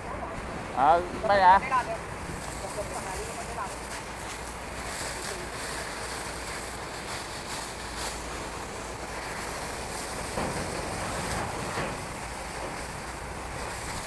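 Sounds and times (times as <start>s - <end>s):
fire hose water spraying: 0.0s - 14.0s.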